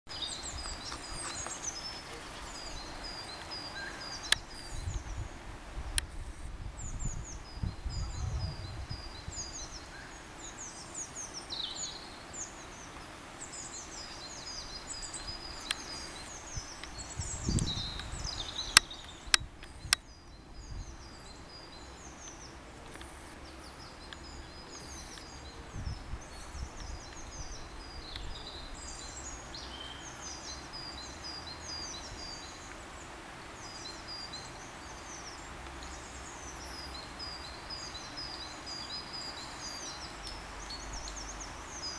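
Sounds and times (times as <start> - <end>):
songbirds chirping and singing: 0.1 - 5.5, 6.7 - 41.9.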